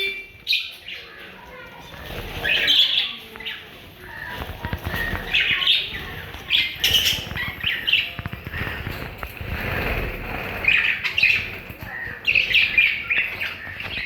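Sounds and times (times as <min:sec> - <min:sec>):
parrots chirping: 0:00.0 - 0:14.0
soft crackling and rustling: 0:01.2 - 0:14.0.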